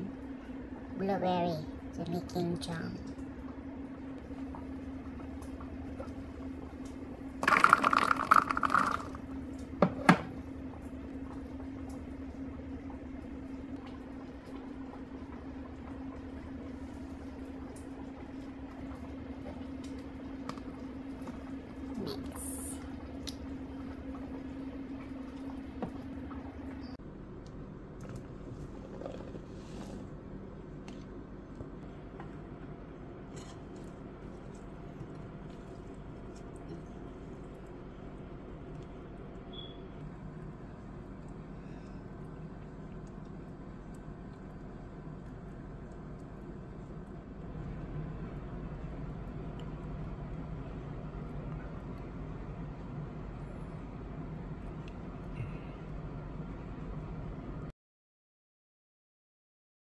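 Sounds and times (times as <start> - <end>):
low hum: 0.0 - 57.7.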